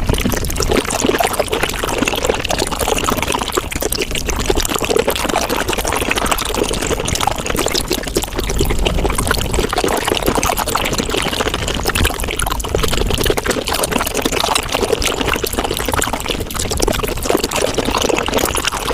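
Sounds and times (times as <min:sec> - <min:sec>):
sped-up wet chewing and slurping: 0:00.0 - 0:18.9.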